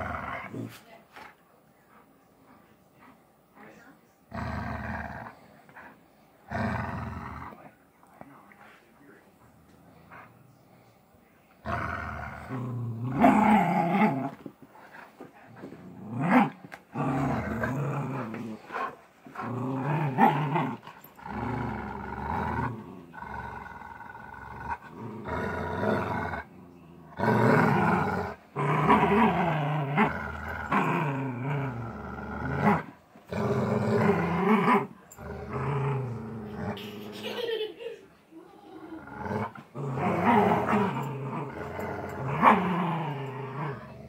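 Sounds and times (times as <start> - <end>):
dogs growling playfully: 0.0 - 1.3, 4.2 - 7.8, 11.6 - 37.9, 38.7 - 44.0.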